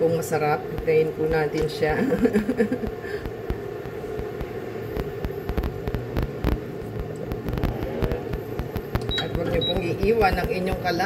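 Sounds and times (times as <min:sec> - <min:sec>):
induction cooker hum: 0:00.0 - 0:11.0
broth bubbling: 0:00.5 - 0:11.0.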